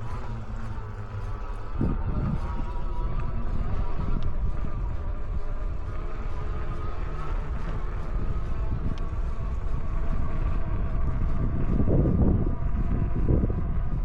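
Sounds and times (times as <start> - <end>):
thin steady whine: 0.0 - 14.0
wind rumbling on microphone: 0.0 - 14.0.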